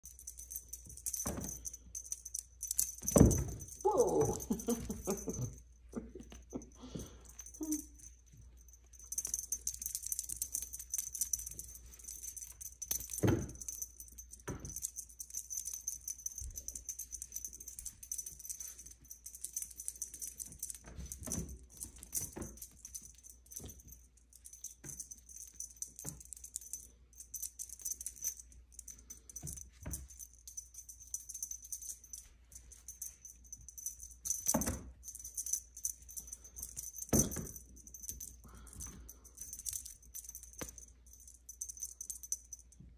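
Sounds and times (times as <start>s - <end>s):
high jingling rattle: 0.0s - 42.9s.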